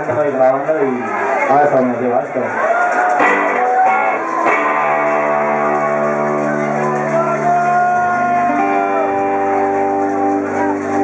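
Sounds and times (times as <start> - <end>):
band music with electric guitar: 0.0 - 11.0.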